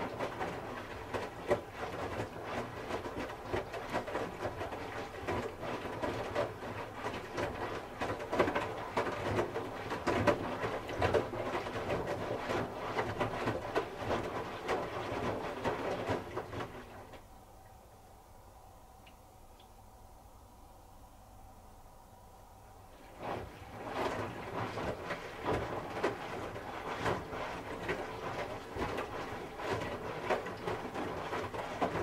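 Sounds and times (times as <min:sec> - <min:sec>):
water sloshing in washing machine: 0:00.0 - 0:17.3, 0:22.9 - 0:32.0.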